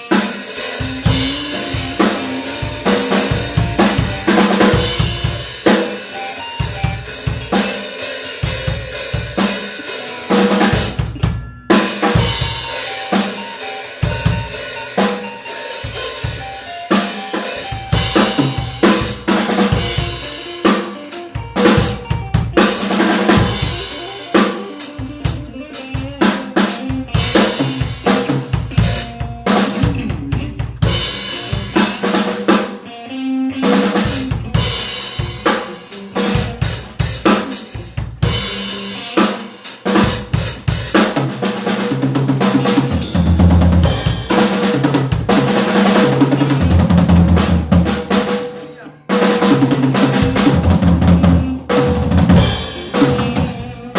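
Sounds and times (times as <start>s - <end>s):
drum kit playing: 0.0s - 53.9s
held guitar notes: 0.0s - 53.9s.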